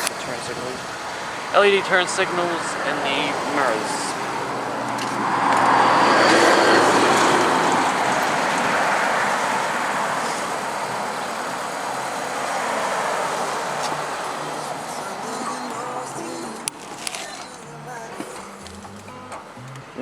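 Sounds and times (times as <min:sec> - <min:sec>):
vehicle passing on road: 0:00.0 - 0:20.0.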